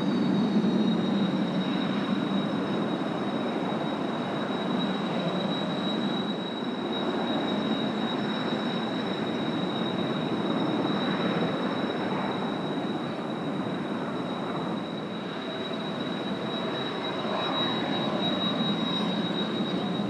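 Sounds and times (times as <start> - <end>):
jet engines roaring with whine: 0.0 - 20.0.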